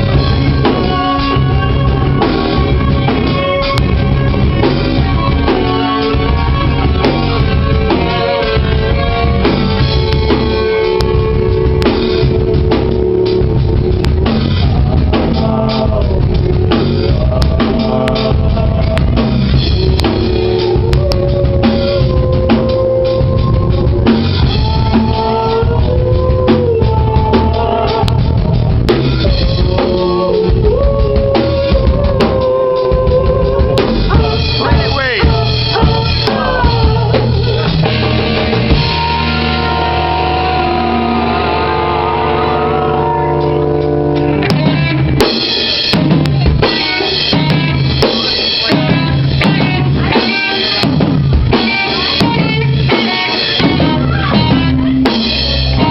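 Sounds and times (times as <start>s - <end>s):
drum kit: 0.0s - 55.9s
rock band playing: 0.0s - 55.9s.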